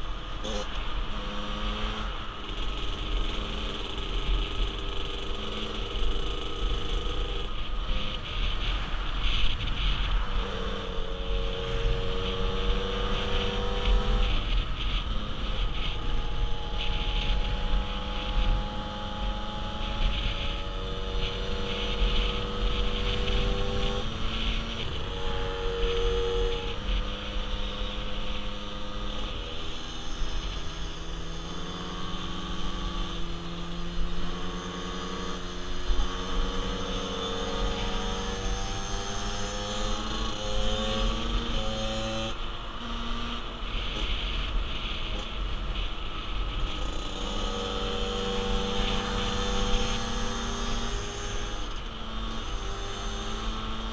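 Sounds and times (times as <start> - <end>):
motorcycle engine changing gears: 0.0 - 53.9.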